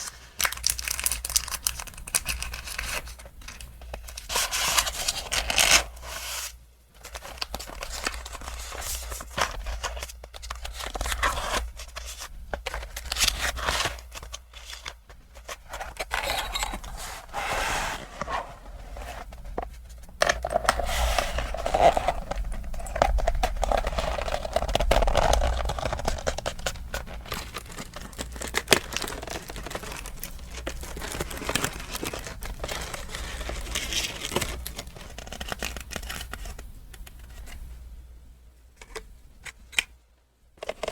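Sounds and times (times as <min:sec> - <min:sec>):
packaging crinkling: 0:00.0 - 0:37.6.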